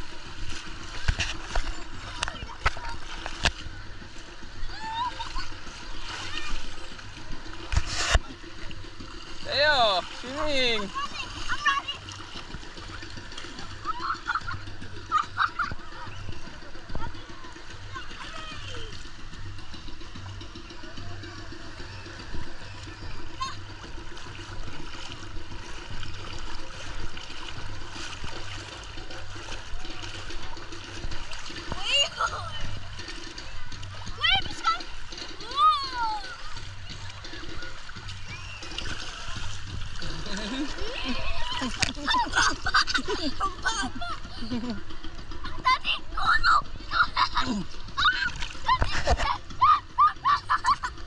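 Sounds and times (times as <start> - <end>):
sea water splashing: 0.0 - 51.0
steady low hum: 0.0 - 51.0
faint voices: 1.5 - 51.0.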